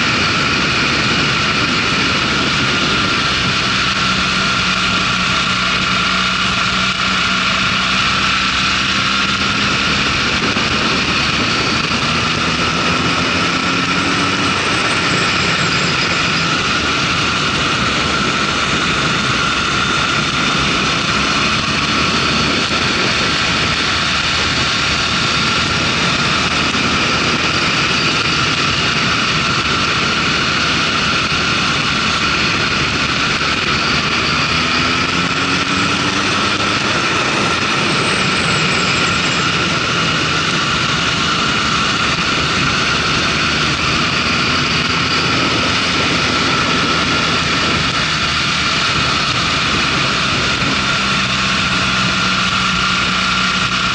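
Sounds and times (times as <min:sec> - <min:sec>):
motorcycle engine: 0:00.0 - 0:53.9
wind and road noise: 0:00.0 - 0:53.9.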